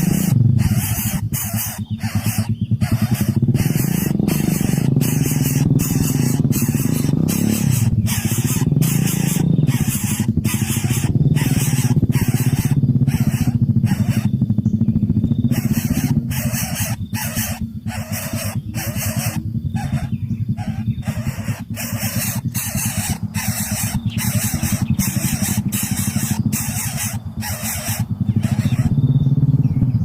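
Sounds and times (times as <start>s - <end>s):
chicks hissing in bursts: 0.0s - 29.1s
dense low buzzing: 0.0s - 30.0s.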